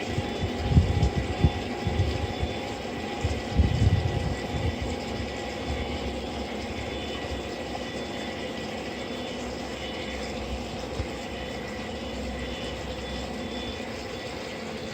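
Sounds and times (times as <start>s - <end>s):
model train wheels and motors rumbling: 0.0s - 14.9s.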